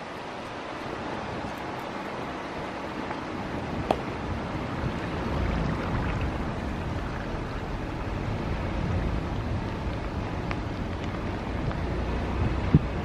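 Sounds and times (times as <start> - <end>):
outdoor rushing noise: 0.0 - 13.0
wind buffeting microphone: 0.1 - 13.0.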